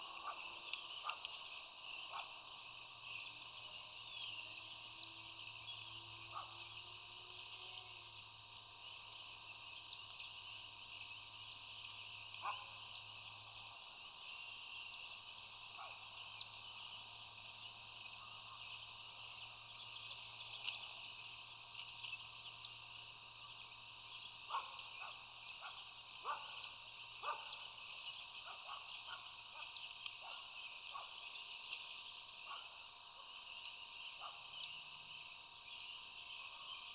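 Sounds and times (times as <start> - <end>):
chorus of frogs calling: 0.0 - 36.9.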